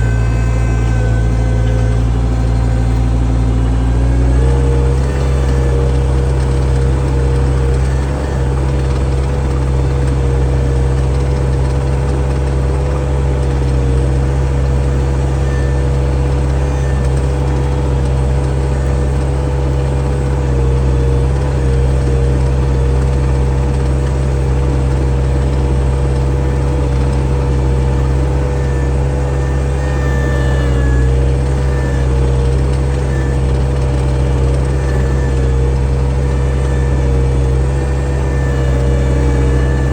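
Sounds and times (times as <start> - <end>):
skid steer engine running: 0.0 - 39.9
steady whine: 0.0 - 39.9.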